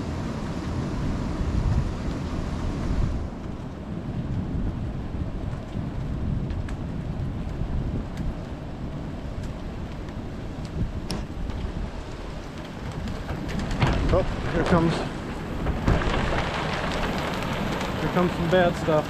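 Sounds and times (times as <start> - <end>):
rain falling: 0.0 - 19.0
wind buffeting microphone: 0.0 - 19.0.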